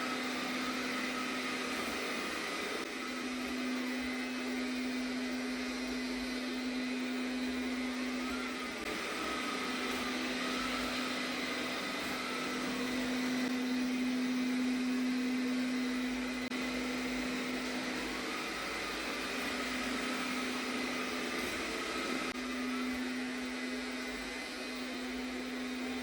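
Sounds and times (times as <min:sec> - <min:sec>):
robot vacuum motor hum: 0:00.0 - 0:26.0.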